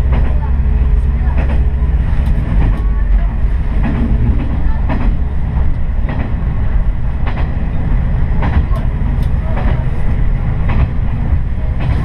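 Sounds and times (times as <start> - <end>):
train engine and wheels rumbling: 0.0 - 12.0.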